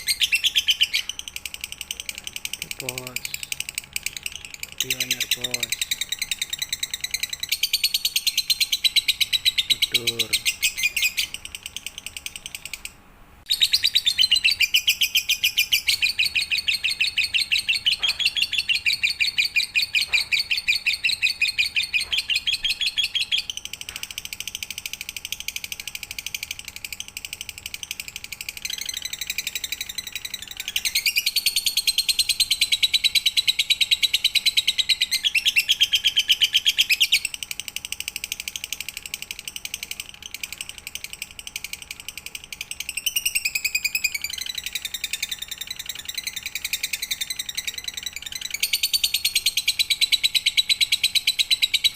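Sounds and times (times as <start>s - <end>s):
lovebird chattering trill: 0.0s - 51.9s.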